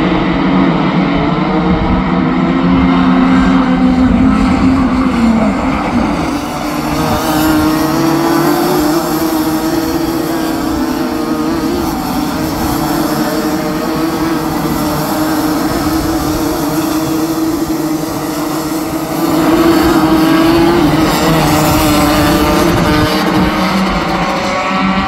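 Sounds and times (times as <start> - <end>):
racing kart engines at high revs: 0.0 - 25.0.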